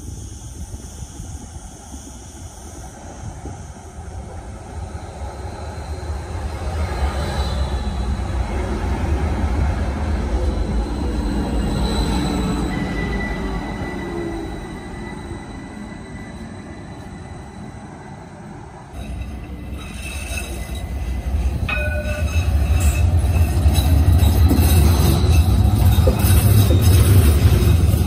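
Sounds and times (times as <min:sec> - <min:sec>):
electric tram whining: 0:00.0 - 0:28.0
tram rumbling on rails: 0:00.0 - 0:28.0.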